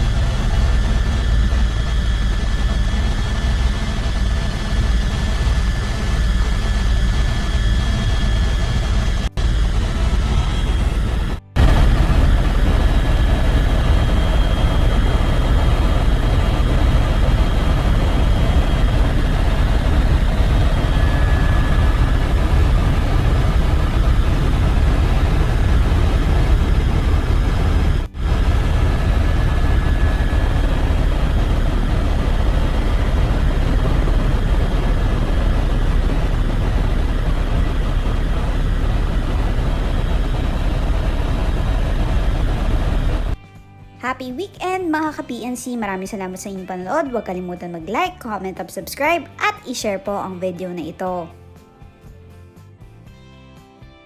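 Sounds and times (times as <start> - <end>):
helicopter engine and rotor: 0.0 - 43.4.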